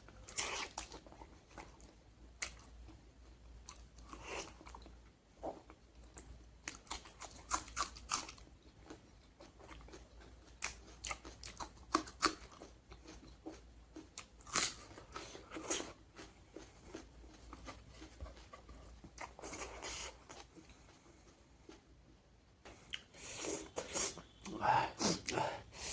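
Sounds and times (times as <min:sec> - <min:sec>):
person chewing food: 0:00.0 - 0:25.9.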